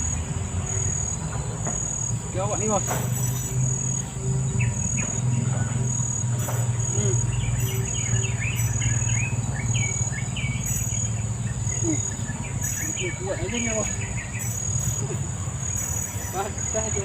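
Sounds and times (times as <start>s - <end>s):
birds chirping: 0.0s - 17.0s
insects buzzing: 0.0s - 17.0s.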